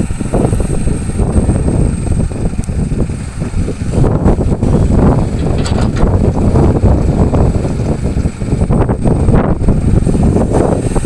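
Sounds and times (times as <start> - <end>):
excavator diesel engine working: 0.0 - 11.0
wind buffeting microphone: 0.0 - 11.0.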